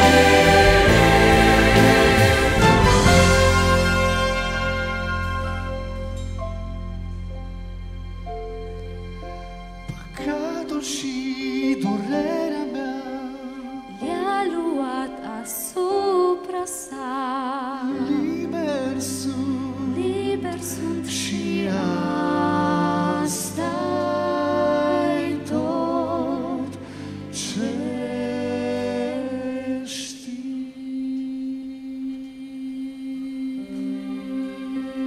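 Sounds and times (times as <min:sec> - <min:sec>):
soft orchestral accompaniment: 0:00.0 - 0:35.0.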